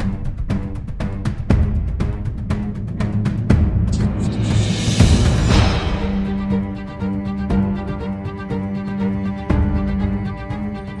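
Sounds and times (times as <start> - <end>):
steady drum beat: 0.0 - 10.8.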